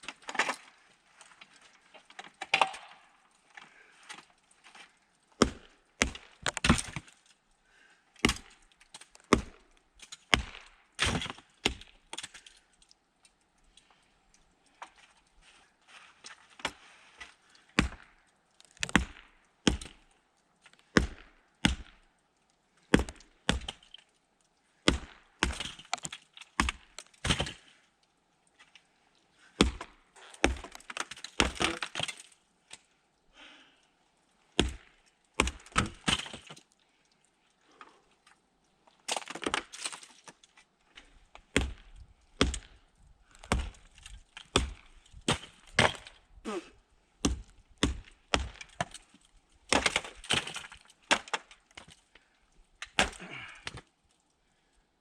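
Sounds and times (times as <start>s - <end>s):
ice cracking under blows: 0.0s - 33.0s, 33.6s - 46.3s, 47.2s - 54.8s.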